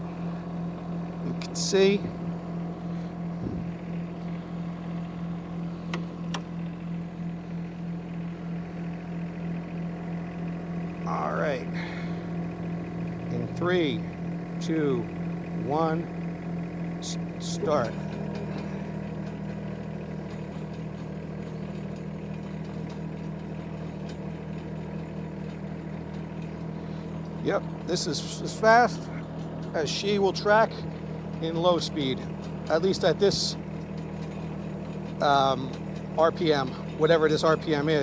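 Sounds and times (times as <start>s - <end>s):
excavator engine humming: 0.0s - 38.0s.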